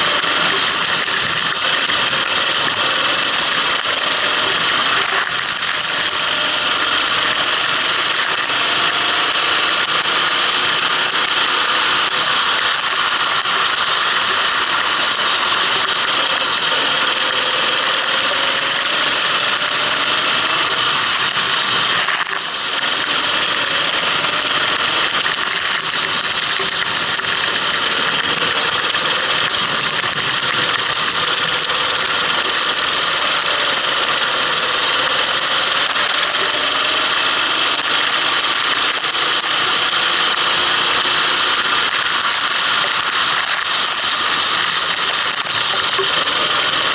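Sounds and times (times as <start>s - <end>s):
kart engine running: 0.0s - 46.9s.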